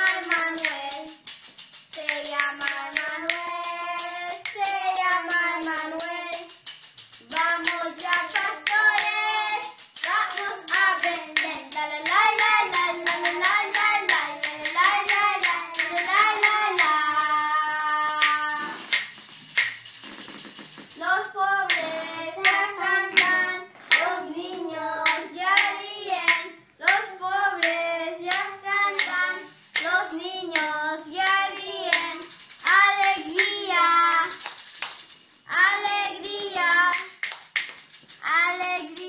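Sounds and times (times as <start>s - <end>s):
young voices singing a carol: 0.0s - 1.3s, 1.9s - 6.6s, 7.2s - 19.0s, 21.0s - 34.4s, 35.5s - 37.3s, 38.2s - 39.0s
tambourine jingling: 0.0s - 24.2s, 28.3s - 39.0s.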